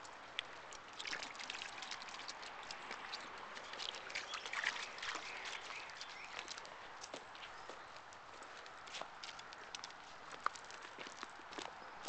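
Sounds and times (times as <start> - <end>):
water drips: 0.0 - 11.6
footsteps splashing in water: 0.0 - 11.8
stream running: 0.0 - 11.8.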